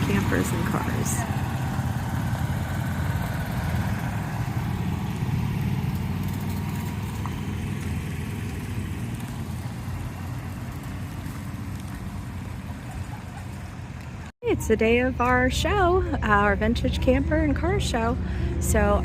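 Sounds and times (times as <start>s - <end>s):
golf cart engine rumbling: 0.0s - 19.0s.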